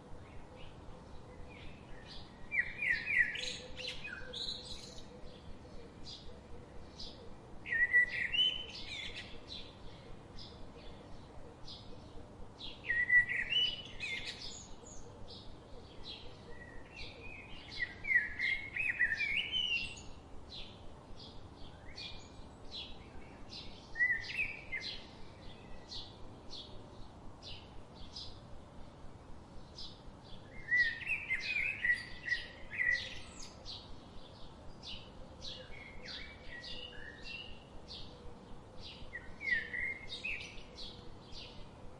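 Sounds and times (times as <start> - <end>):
bird warbling song: 0.2 - 28.5, 29.6 - 41.8.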